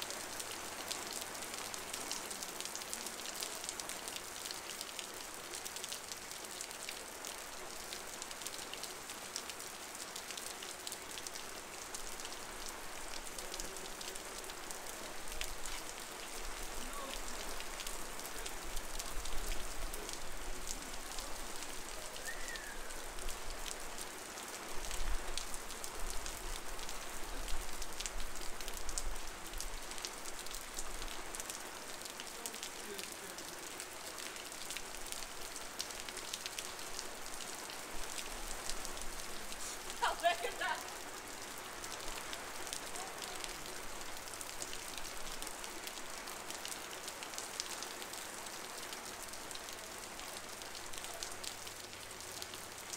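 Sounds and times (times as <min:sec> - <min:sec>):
heavy rain on street: 0:00.0 - 0:52.9.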